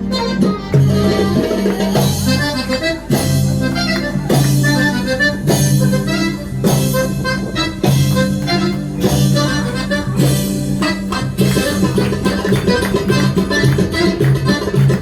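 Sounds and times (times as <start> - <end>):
reed instrument melody: 0.0 - 15.0
steady beat: 0.0 - 15.0
sustained bass notes: 0.0 - 15.0.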